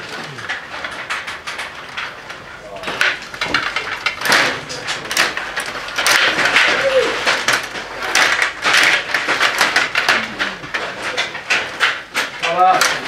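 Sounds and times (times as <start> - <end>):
control rods rattling and clacking: 0.0 - 13.0
plastic players knocking puck: 0.0 - 13.0.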